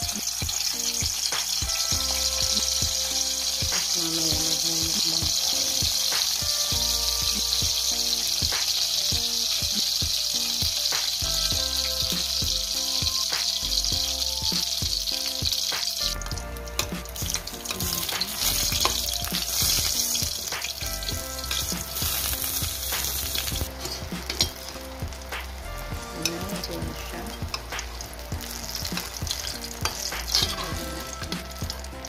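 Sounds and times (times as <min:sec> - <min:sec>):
eggplant sizzling in hot oil: 0:00.0 - 0:32.0.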